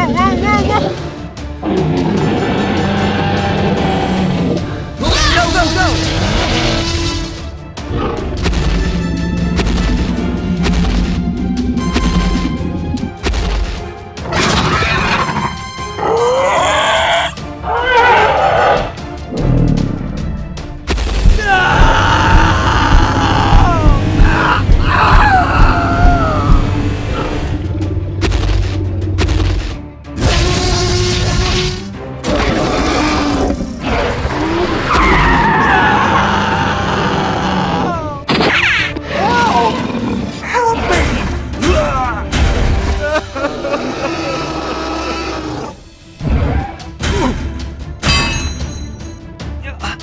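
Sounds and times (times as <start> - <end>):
background music: 0.0 - 50.0.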